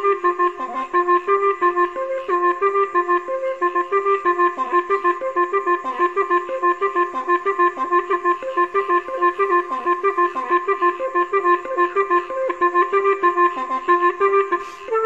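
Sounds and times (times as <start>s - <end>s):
lively woodwind melody: 0.0s - 15.0s.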